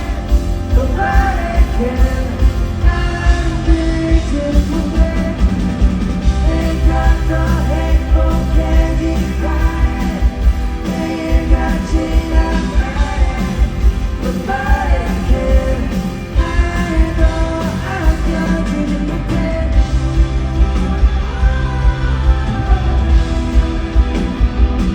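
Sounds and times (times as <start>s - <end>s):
live rock band playing: 0.0s - 24.9s
person singing lead vocal: 0.0s - 24.9s
steady drum beat: 0.0s - 24.9s.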